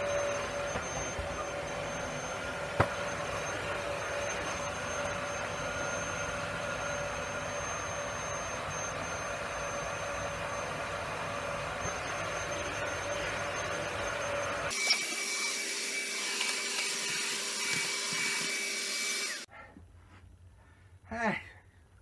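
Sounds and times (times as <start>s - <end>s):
machine hum with whine: 0.0s - 19.5s.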